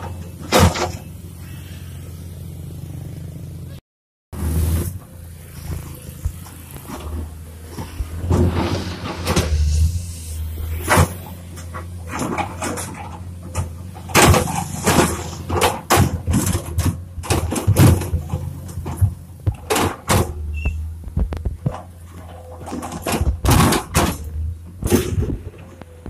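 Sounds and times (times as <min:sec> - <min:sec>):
excavator diesel engine running: 0:00.0 - 0:03.8, 0:04.4 - 0:26.0.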